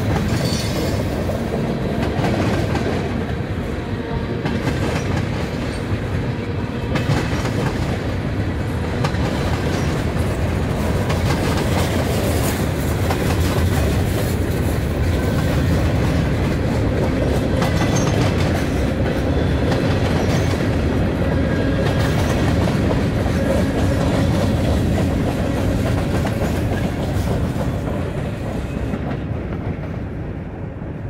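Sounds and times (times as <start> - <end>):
freight train wheels rolling: 0.0 - 31.0.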